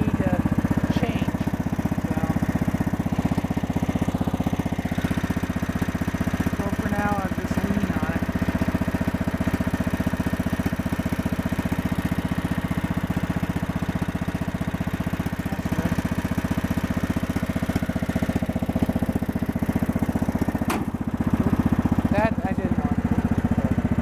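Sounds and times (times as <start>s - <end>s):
riding mower engine chugging: 0.0s - 24.0s.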